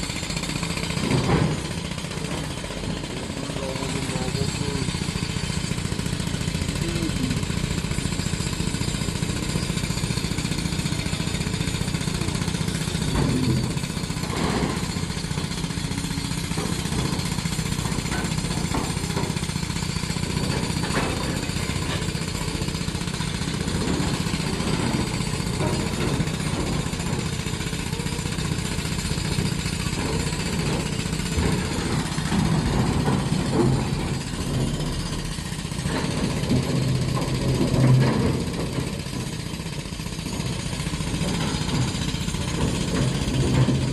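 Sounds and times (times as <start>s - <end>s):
diesel engine running: 0.0s - 43.9s
knocks and clanks: 0.6s - 43.9s.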